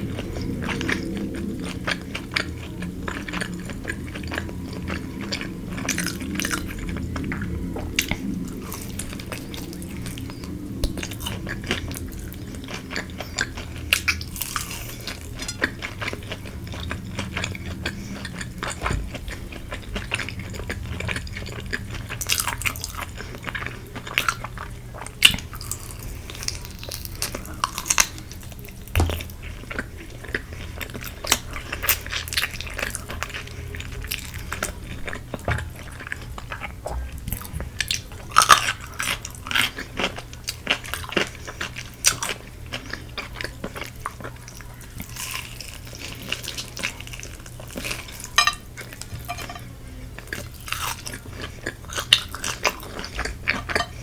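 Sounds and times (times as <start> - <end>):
low steady hum: 0.0 - 54.0
wet chewing: 0.0 - 54.0.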